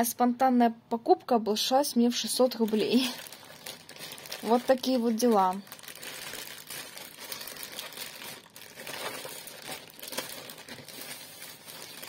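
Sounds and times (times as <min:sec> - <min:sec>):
plastic bag rustling and crinkling: 0:02.1 - 0:12.0.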